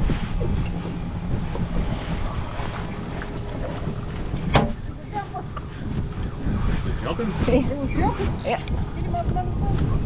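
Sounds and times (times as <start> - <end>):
water sloshing around boat: 0.0 - 10.0
wind buffeting microphone: 0.0 - 10.0.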